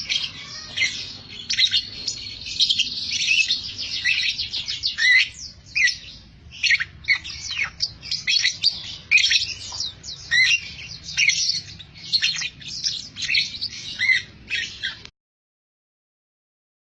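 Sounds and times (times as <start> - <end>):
lovebird chirping: 0.0 - 15.1.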